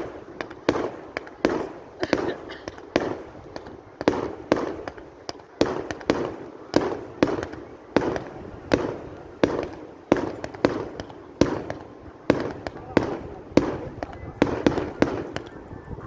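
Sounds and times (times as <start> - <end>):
fireworks bangs with rumbling echo: 0.0 - 16.0.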